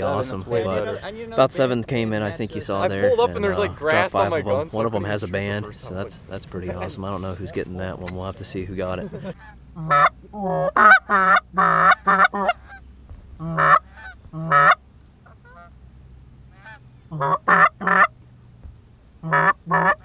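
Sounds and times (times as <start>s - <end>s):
geese honking: 0.0s - 18.2s, 19.2s - 20.0s.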